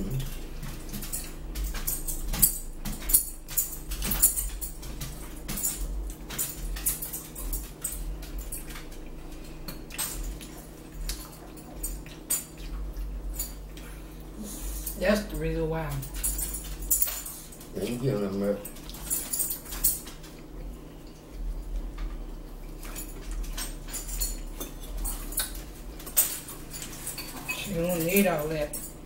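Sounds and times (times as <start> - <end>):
chewing: 0.0 - 15.0, 16.0 - 27.8
low hum: 0.0 - 29.0.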